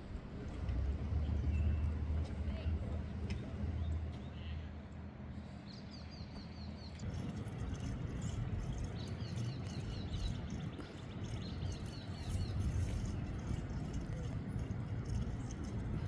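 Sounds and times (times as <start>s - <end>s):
steady outdoor noise: 0.0s - 16.0s.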